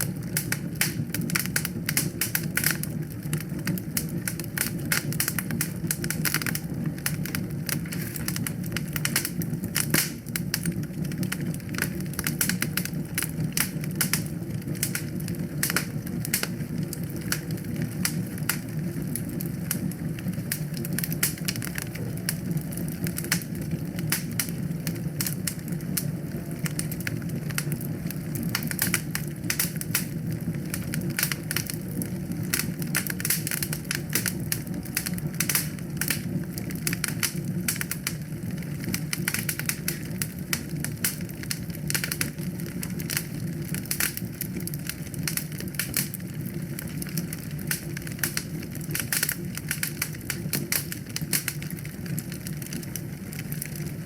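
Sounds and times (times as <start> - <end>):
fire crackling in fireplace: 0.0 - 54.0.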